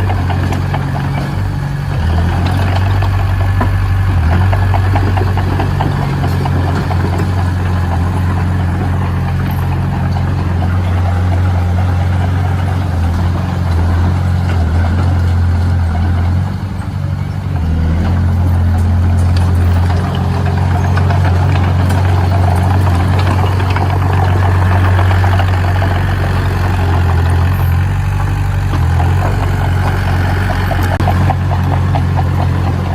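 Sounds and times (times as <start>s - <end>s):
heavy machine engine humming: 0.0s - 32.9s.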